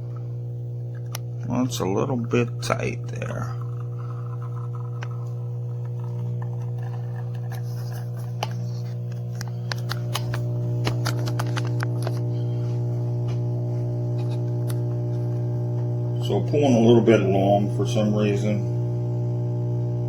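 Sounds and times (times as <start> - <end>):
espresso machine pump humming: 0.0 - 20.0.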